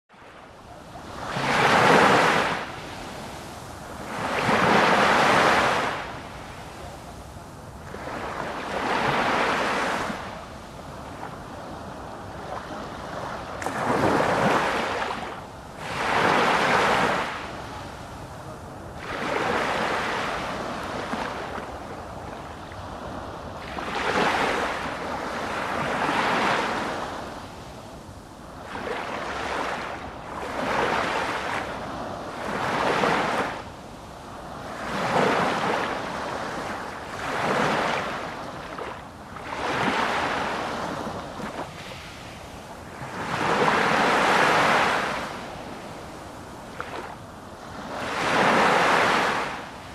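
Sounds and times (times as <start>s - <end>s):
ocean waves washing ashore: 0.1s - 49.9s.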